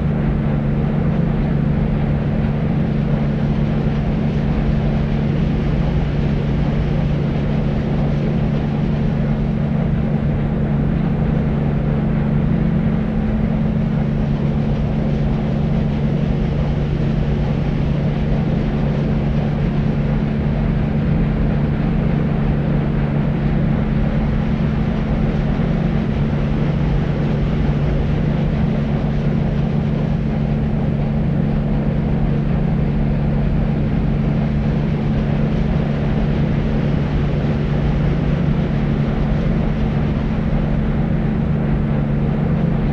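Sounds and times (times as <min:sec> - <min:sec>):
deep white noise: 0:00.0 - 0:42.9.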